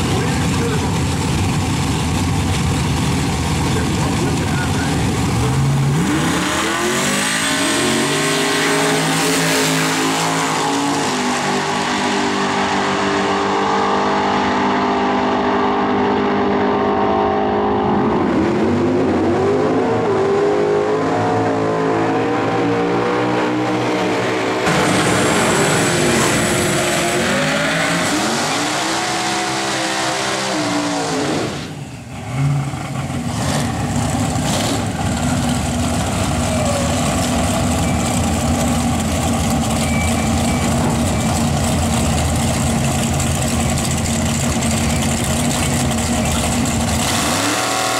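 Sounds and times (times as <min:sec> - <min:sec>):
pickup engine revving: 0:00.0 - 0:47.9.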